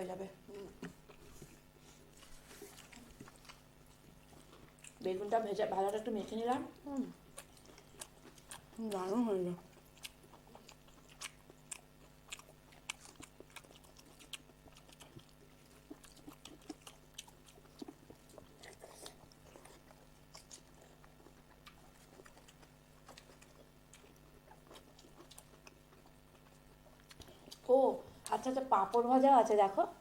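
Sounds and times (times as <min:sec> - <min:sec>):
low steady hum: 0:00.0 - 0:30.0
mouth clicks and soft chewing: 0:00.5 - 0:29.2.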